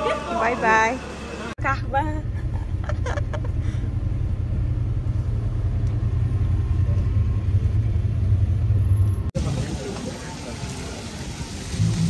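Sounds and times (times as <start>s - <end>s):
minibus engine rumble: 0.0s - 12.0s.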